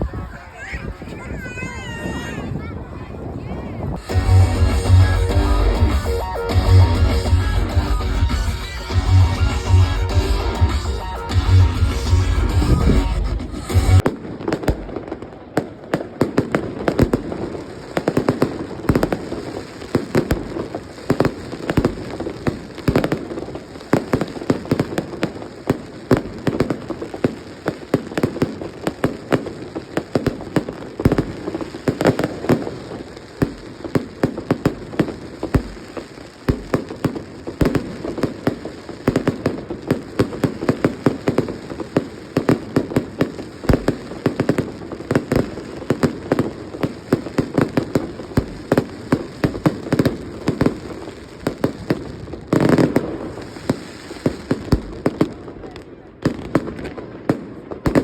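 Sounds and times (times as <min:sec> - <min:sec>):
fireworks popping and banging: 0:00.0 - 0:58.0.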